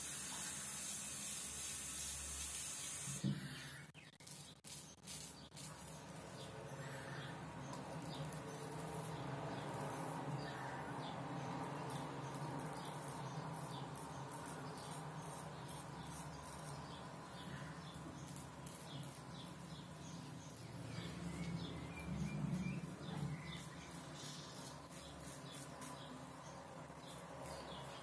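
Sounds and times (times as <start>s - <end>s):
razor scraping stubble: 0.0s - 26.3s.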